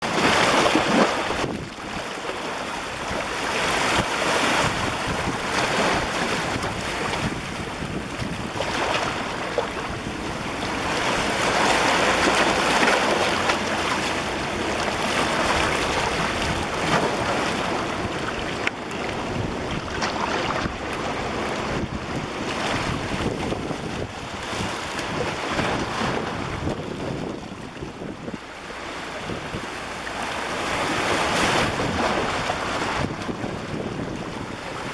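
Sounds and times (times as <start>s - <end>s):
ocean waves breaking on beach: 0.0s - 34.9s
wind buffeting microphone: 0.0s - 34.9s.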